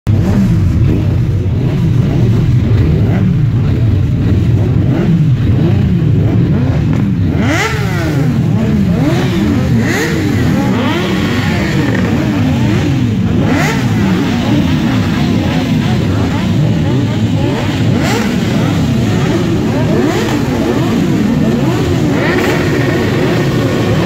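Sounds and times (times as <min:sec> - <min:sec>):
motorcycle engines idling and revving: 0:00.0 - 0:24.0.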